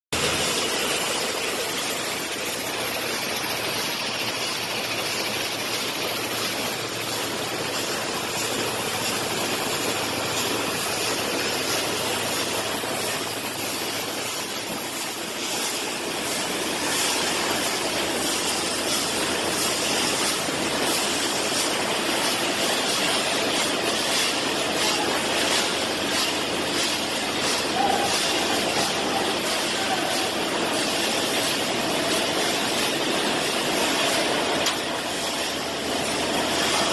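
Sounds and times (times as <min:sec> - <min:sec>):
conveyor machinery noise: 0:00.1 - 0:36.9.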